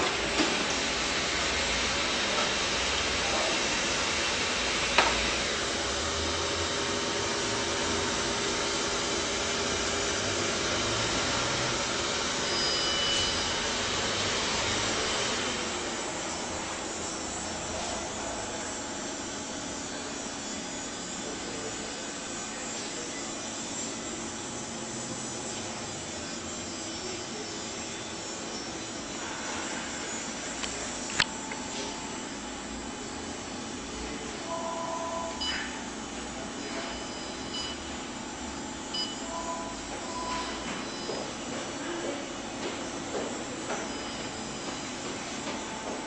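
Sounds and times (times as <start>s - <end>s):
laser printer whirring: 0.0s - 46.0s.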